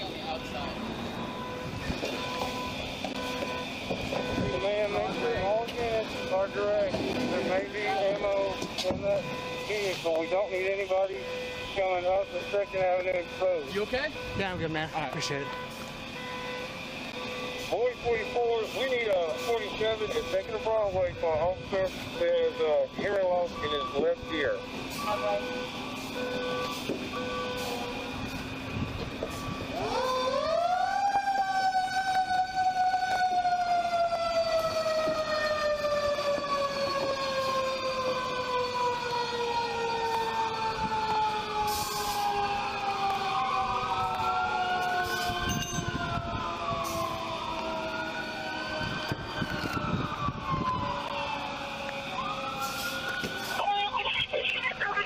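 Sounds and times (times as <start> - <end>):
emergency vehicle siren winding: 0.0 - 55.0.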